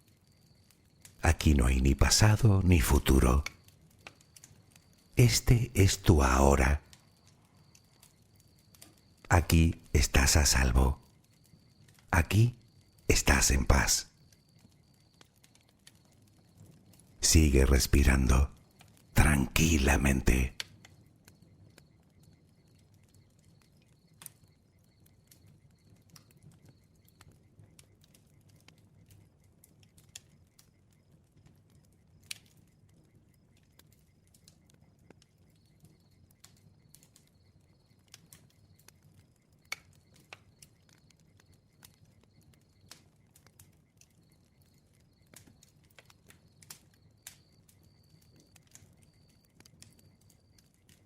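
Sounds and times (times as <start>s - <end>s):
campfire crackling: 0.0s - 51.0s.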